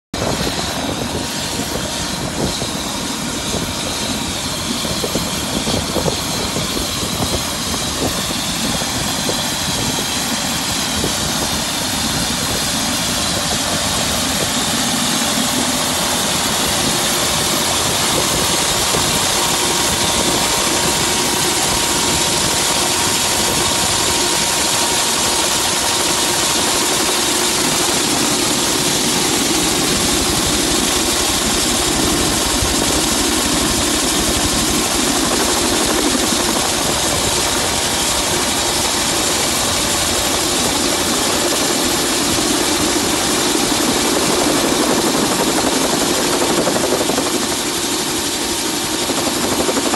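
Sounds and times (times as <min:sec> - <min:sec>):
helicopter turbine engine running: 0:00.1 - 0:49.9.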